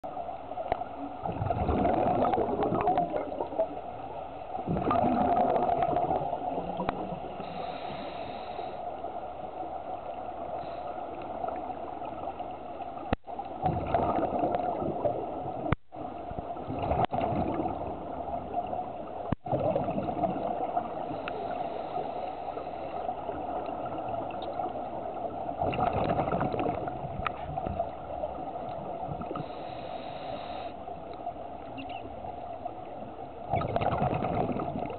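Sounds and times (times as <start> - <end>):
underwater background: 0.0 - 34.9.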